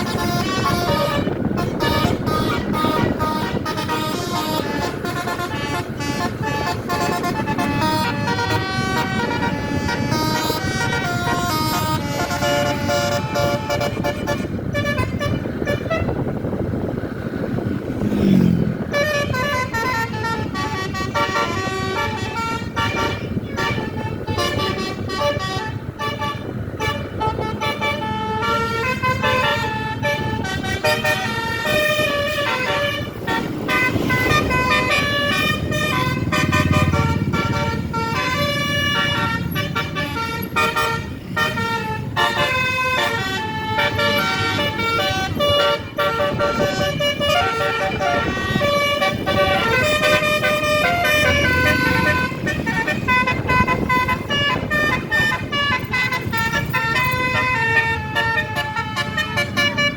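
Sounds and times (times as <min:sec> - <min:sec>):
musical air horn tune: 0:00.0 - 0:16.3, 0:18.8 - 0:59.9
bus engine and road noise: 0:00.0 - 0:59.9.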